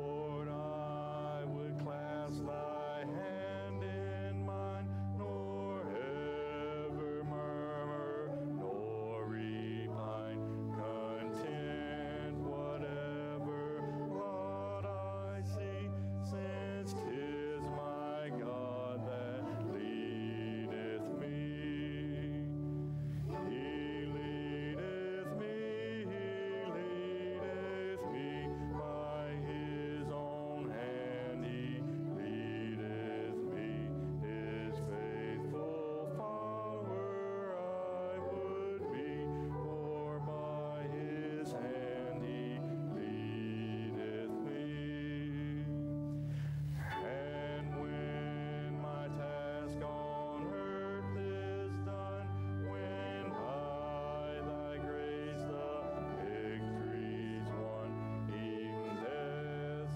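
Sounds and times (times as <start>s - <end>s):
voices singing a hymn: 0.0s - 59.9s.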